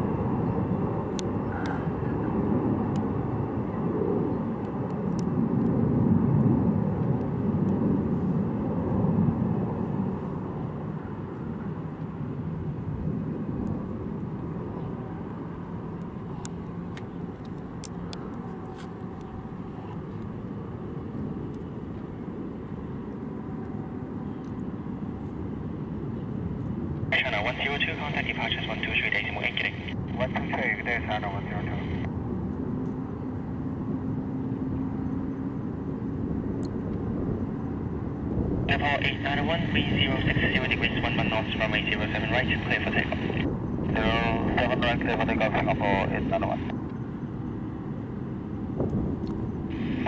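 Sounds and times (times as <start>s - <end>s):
jet engines rumbling: 0.0s - 50.0s.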